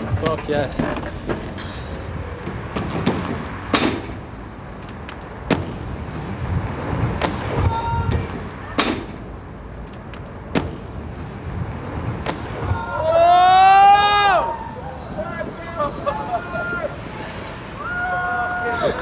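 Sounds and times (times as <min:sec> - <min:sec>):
inline skate wheels rolling: 0:00.0 - 0:19.0.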